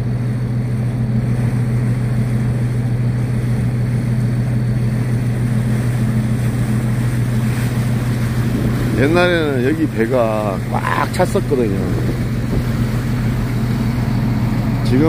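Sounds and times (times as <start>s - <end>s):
boat engine running: 0.0s - 15.0s
water wash: 0.0s - 15.0s
wind: 0.0s - 15.0s.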